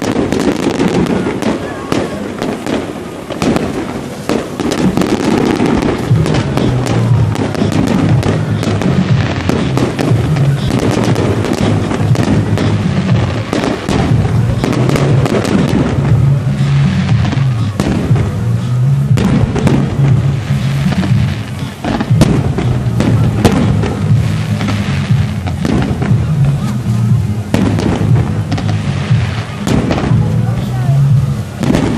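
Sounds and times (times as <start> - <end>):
fireworks bangs and crackling: 0.0 - 31.9
music playing: 0.0 - 31.9.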